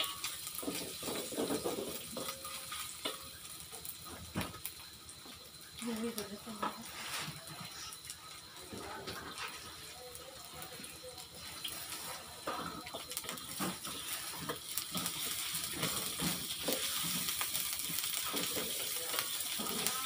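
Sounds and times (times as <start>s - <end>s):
spatula scraping and knocking wok: 0.0s - 4.6s, 6.5s - 10.0s, 10.8s - 20.0s
food sizzling in a wok: 0.0s - 20.0s.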